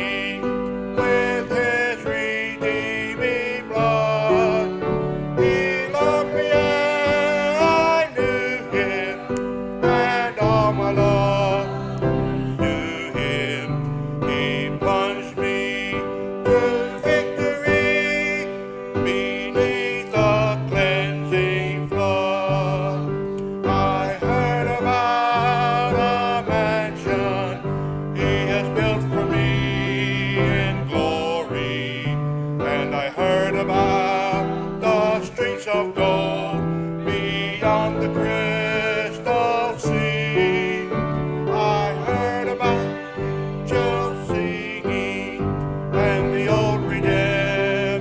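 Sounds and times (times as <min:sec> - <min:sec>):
hymn singing: 0:00.0 - 0:48.0.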